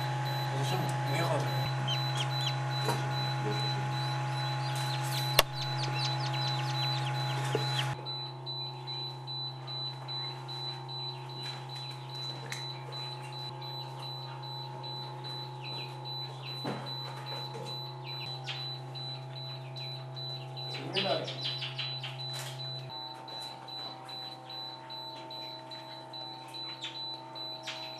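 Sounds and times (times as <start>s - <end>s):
machine hum: 0.0s - 27.9s
chicks peeping: 0.2s - 27.9s.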